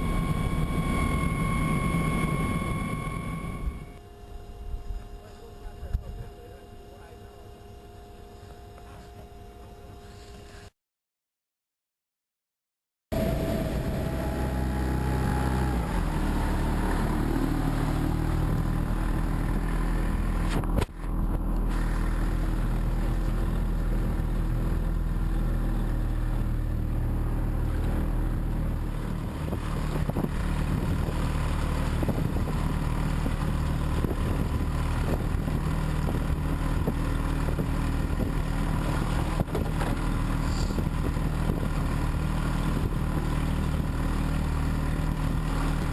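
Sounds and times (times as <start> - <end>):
engine droning steadily: 0.0 - 10.7, 13.1 - 45.9.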